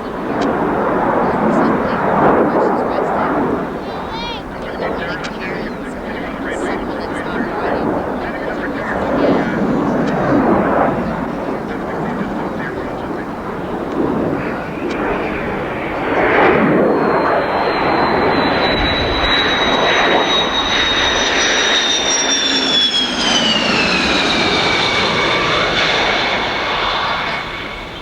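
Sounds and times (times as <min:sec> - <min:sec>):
high engine whine: 0:00.0 - 0:28.0
jet engines roaring: 0:00.0 - 0:28.0.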